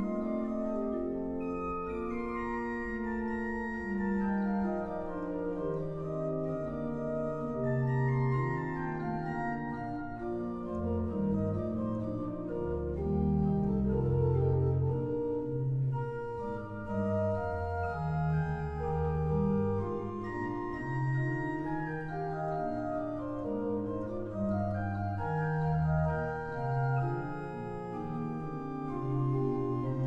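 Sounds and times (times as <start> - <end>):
church pipe organ playing: 0.0 - 30.0.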